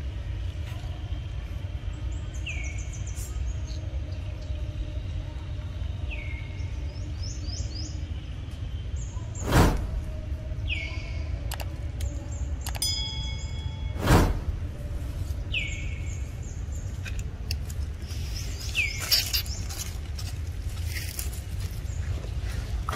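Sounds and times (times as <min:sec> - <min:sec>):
steady low rumble: 0:00.0 - 0:22.9
birds chirping: 0:01.0 - 0:20.2.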